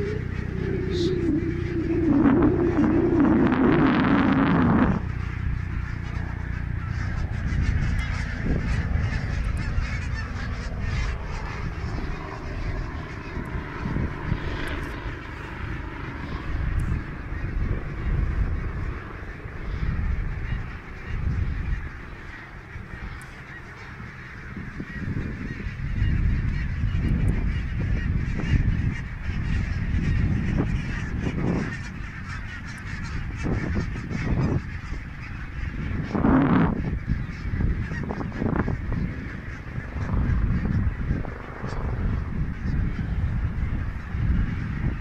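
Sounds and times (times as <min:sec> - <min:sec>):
geese honking: 0:00.0 - 0:45.0
wind rumble on microphone: 0:00.0 - 0:45.0.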